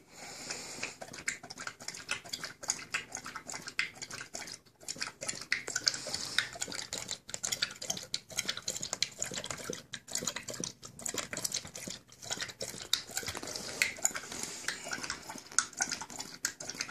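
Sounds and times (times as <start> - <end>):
dog licking and chewing: 0.5 - 16.9.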